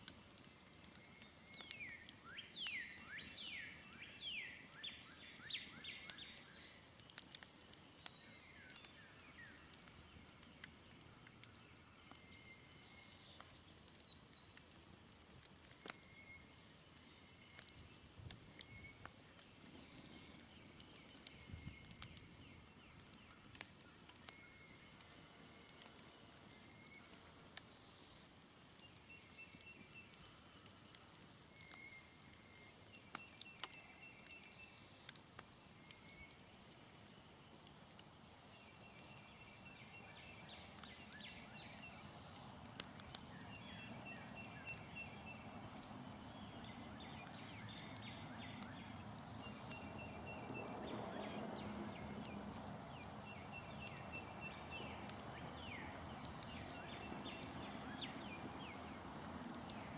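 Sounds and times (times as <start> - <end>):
campfire crackling faintly: 0.0 - 59.9.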